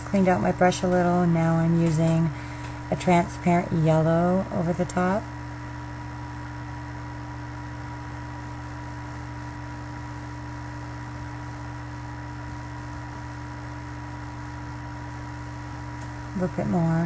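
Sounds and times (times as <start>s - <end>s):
air supply hum: 0.0s - 17.0s.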